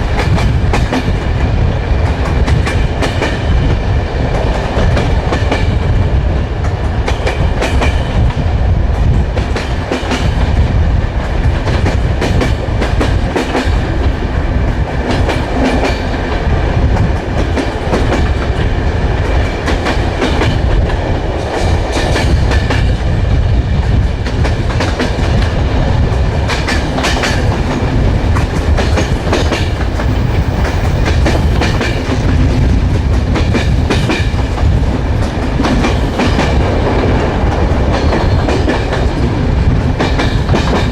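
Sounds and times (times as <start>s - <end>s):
train wheels rumbling on track: 0.0s - 40.9s.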